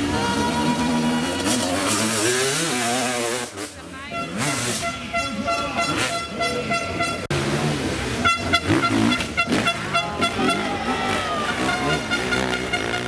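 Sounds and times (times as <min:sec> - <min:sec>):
horn blaring: 0:00.0 - 0:03.3, 0:04.0 - 0:07.4, 0:08.1 - 0:13.0
dirt bike engine revving: 0:00.0 - 0:13.0.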